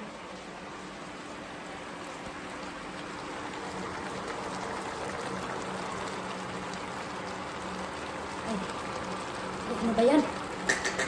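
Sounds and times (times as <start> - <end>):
sauce bubbling and sizzling: 0.0 - 11.0.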